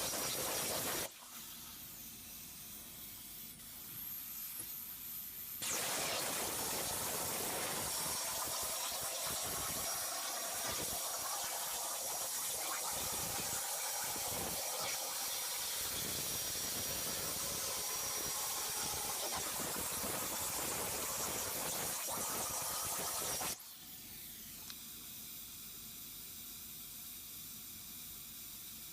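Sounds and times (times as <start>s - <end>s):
plasma torch hissing: 0.0s - 24.7s
quieter hiss: 0.0s - 28.9s.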